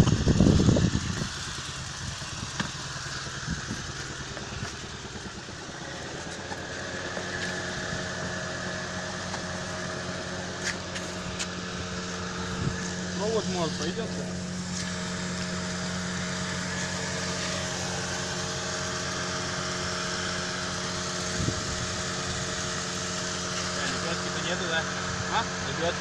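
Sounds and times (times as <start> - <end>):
two-cylinder engine idling: 0.0 - 26.0.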